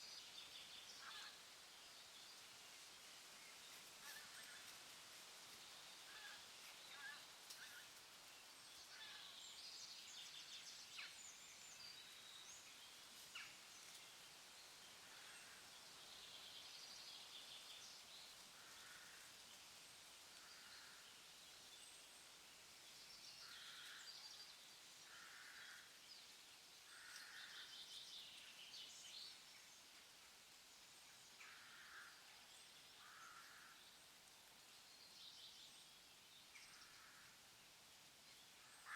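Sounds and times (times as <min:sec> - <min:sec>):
steady soft hiss: 0:00.0 - 0:38.9.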